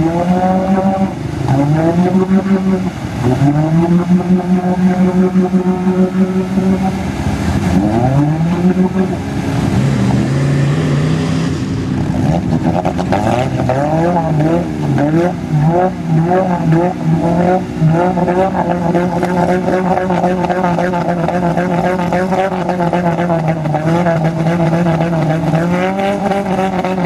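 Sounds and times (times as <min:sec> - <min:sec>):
car engine revving under load: 0:00.0 - 0:27.0.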